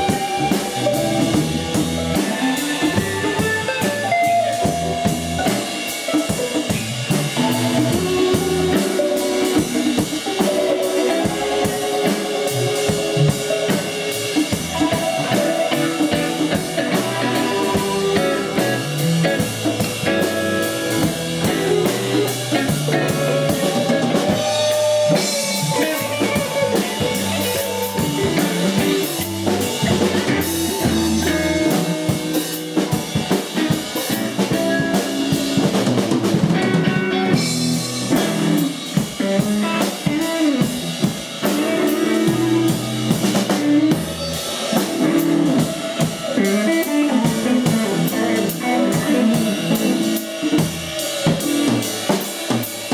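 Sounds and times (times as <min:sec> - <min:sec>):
drum kit beat: 0:00.0 - 0:52.9
rock band playing live: 0:00.0 - 0:52.9.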